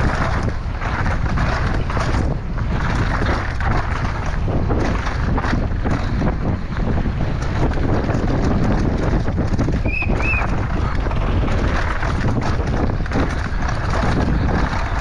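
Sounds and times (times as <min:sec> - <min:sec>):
mountain bike rattling over rough ground: 0:00.0 - 0:15.0
wind on microphone: 0:00.0 - 0:15.0.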